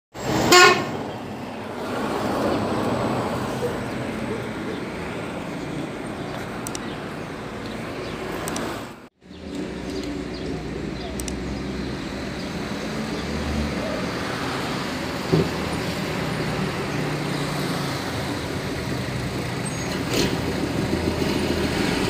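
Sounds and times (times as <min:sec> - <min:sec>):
vehicle engines and tyres: 0:00.1 - 0:22.0
heavy truck engine: 0:00.2 - 0:22.0.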